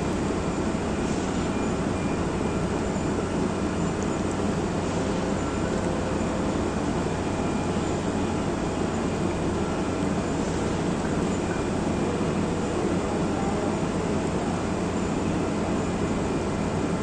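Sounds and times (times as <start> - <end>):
industrial machinery rumble: 0.0 - 17.0.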